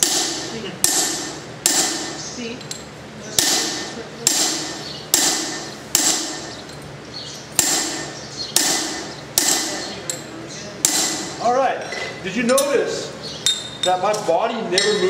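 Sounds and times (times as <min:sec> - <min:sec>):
hammer clanging on metal: 0:00.0 - 0:02.8, 0:03.4 - 0:06.7, 0:07.6 - 0:10.2, 0:10.8 - 0:12.8, 0:13.5 - 0:15.0.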